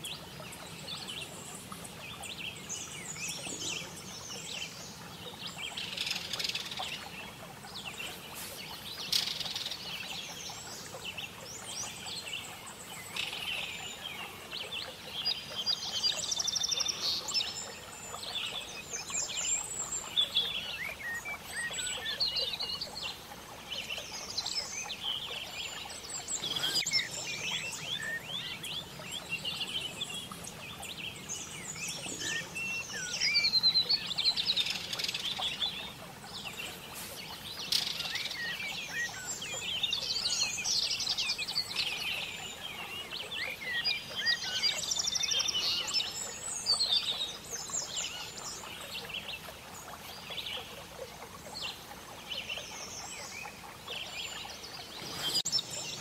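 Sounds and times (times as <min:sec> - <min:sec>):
faint background hiss: 0:00.0 - 0:56.0
songbirds chirping: 0:00.0 - 0:56.0.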